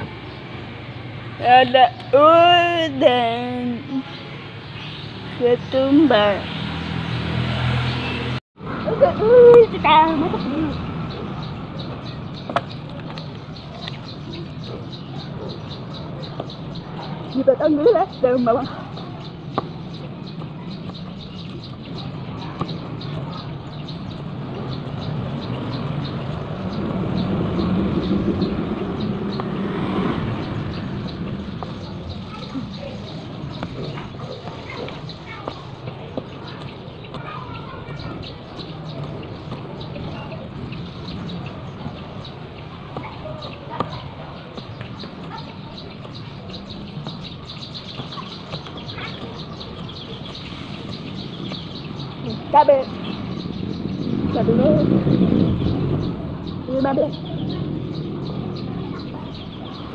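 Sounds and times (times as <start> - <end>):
small birds chirping: 0.0 - 59.9
vehicle engine rumble: 0.0 - 59.9.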